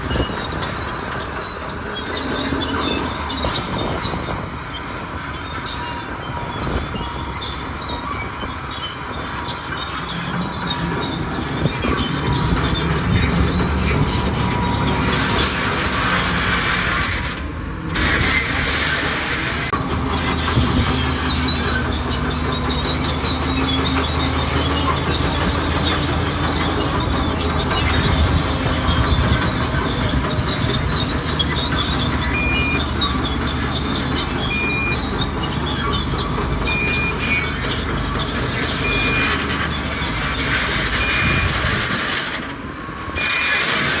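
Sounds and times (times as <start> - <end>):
bulldozer engine rumbling: 0.0 - 44.0
steel tracks squealing: 0.0 - 44.0.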